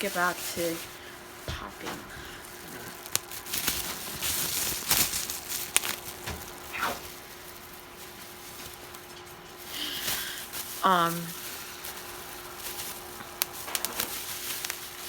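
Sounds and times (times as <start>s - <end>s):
bubble wrap popping: 0.0s - 15.0s
plastic crinkling: 0.0s - 15.0s.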